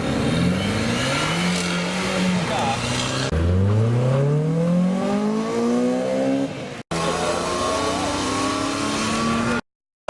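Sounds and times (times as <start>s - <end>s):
engine at high revs: 0.0s - 9.6s.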